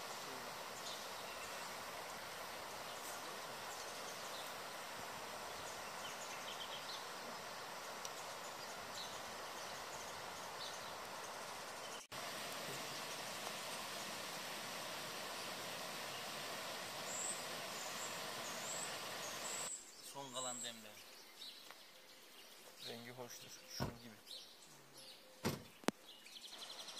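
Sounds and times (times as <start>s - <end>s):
outdoor ambience hiss: 0.0s - 26.9s.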